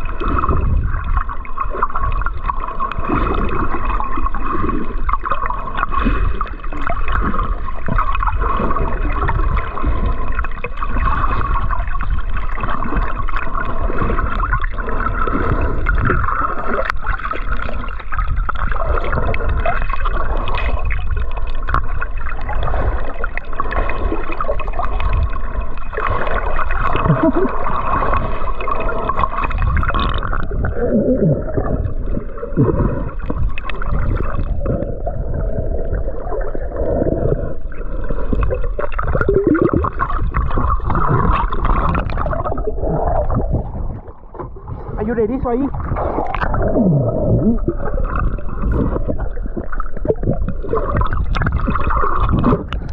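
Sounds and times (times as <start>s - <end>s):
water gurgling and sloshing: 0.0s - 52.9s.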